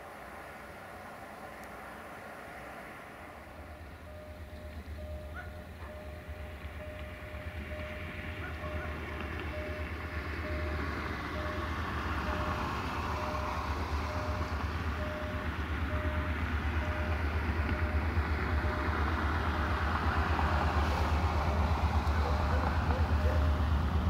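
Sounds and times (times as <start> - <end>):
diesel train approaching: 0.0 - 24.0.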